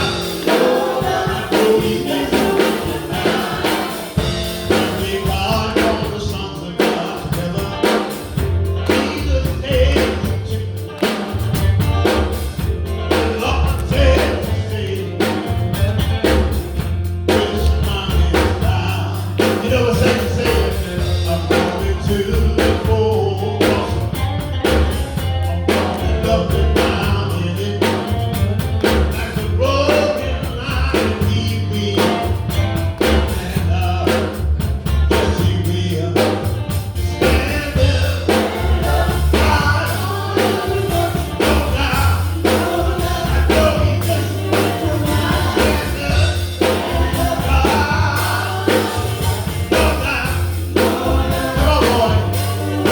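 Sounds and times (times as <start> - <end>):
voices singing: 0.0 - 11.4, 12.0 - 52.9
drum kit beating: 0.0 - 52.9
heavy bass line: 0.0 - 52.9
keyboard and guitars: 0.0 - 52.9.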